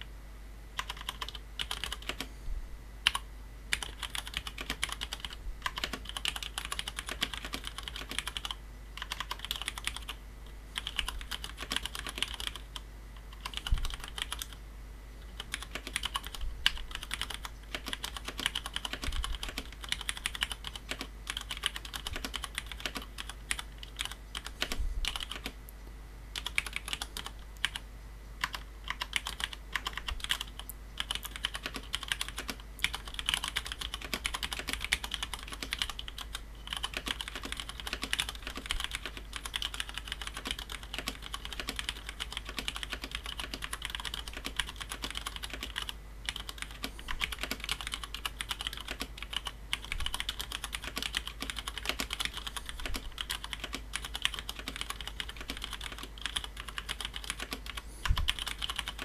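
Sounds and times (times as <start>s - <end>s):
typing on mechanical keyboard: 0.8s - 2.3s, 3.1s - 10.2s, 10.8s - 14.6s, 15.4s - 25.6s, 26.4s - 27.8s, 28.4s - 59.0s.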